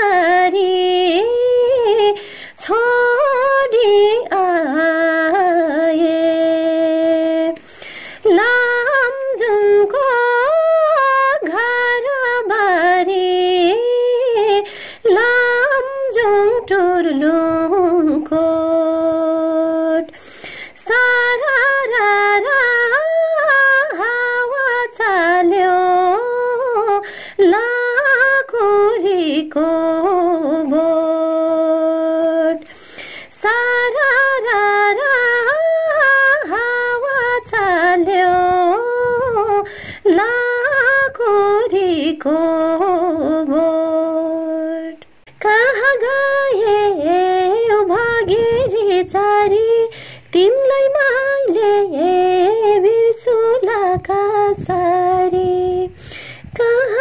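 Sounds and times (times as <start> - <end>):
woman singing unaccompanied: 0.0 - 57.0.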